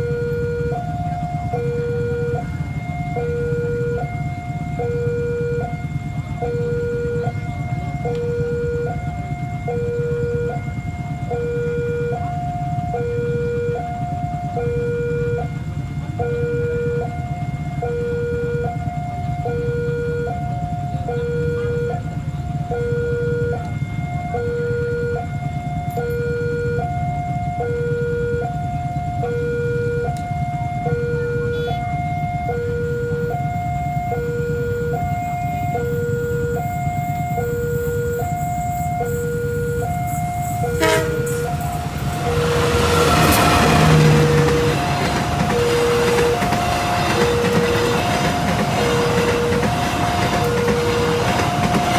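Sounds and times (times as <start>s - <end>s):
two-tone crossing alarm: 0.0s - 51.9s.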